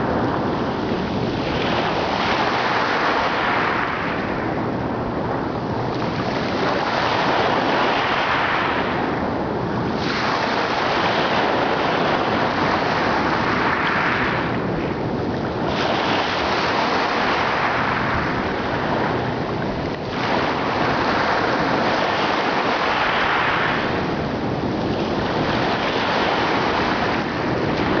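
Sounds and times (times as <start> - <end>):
ocean waves breaking: 0.0 - 28.0
steady rush of surf: 0.0 - 28.0.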